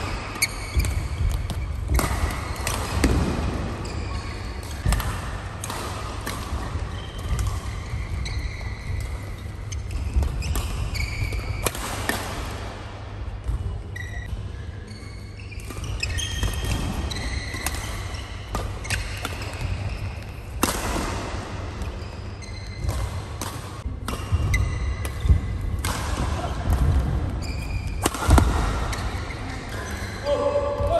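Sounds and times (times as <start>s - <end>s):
court shoes squeaking: 0.0s - 12.2s, 13.3s - 30.9s
racket hitting shuttlecock: 0.0s - 14.1s, 15.6s - 30.1s.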